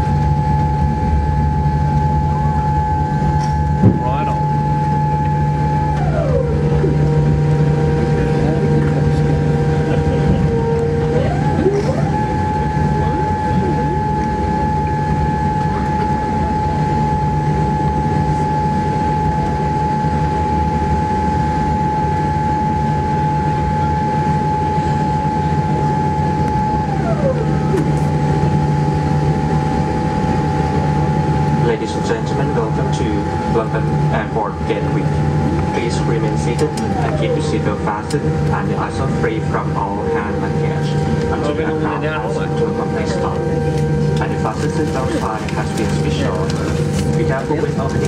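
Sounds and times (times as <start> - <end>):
engine and wheel rumble: 0.0 - 48.0
whining tones: 0.0 - 48.0.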